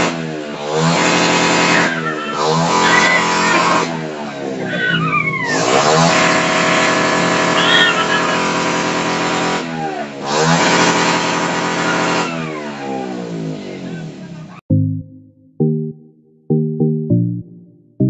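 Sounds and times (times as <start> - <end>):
motorcycle engines revving: 0.0 - 14.6.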